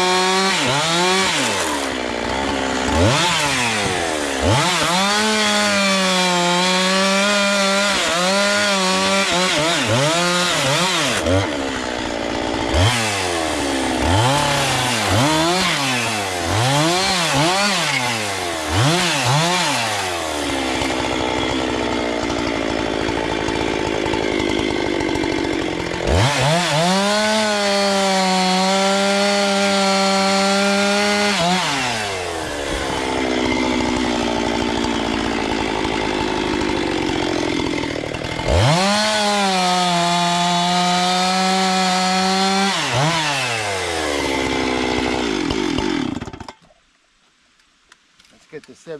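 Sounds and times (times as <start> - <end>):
chainsaw cutting firewood: 0.0 - 46.8.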